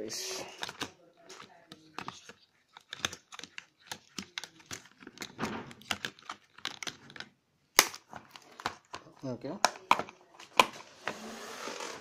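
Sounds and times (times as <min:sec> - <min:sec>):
batteries and plastic box clicking: 0:00.5 - 0:10.8.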